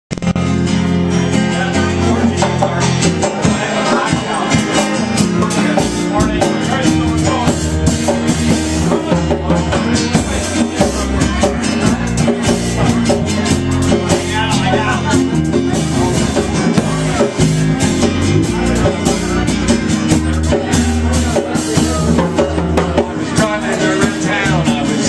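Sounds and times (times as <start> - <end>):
live band music: 0.1 - 25.0
strummed guitars: 0.1 - 25.0
sustained bass notes: 0.1 - 25.0.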